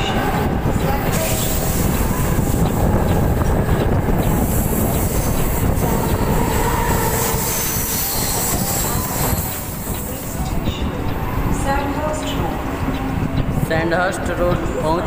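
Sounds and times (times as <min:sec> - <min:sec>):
train wheels clattering on rail: 0:00.0 - 0:14.8
passing train: 0:00.0 - 0:15.0.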